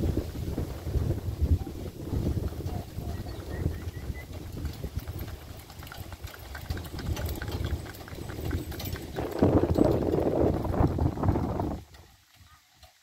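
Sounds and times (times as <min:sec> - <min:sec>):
hooves clip-clopping on pavement: 0:00.0 - 0:13.0.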